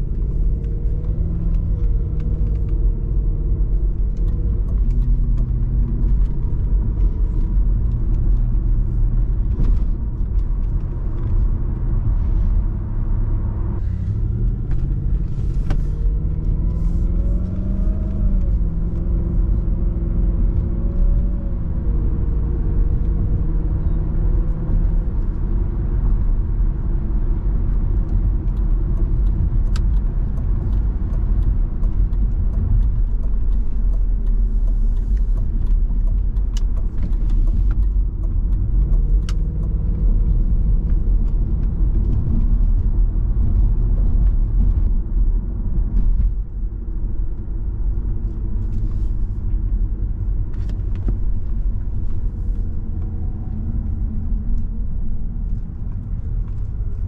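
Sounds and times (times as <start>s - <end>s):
car engine while driving: 0.0s - 57.0s
road and tyre rumble: 0.0s - 57.0s.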